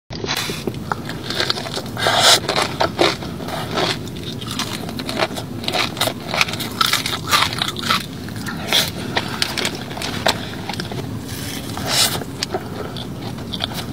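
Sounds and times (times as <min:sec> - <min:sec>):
crunchy chewing: 0:00.2 - 0:13.9.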